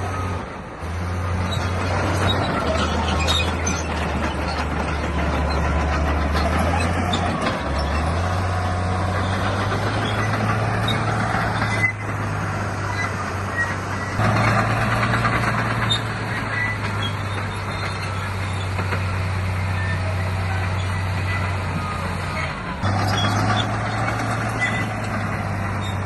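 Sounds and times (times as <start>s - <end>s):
diesel machinery engine drone: 0.0s - 26.0s.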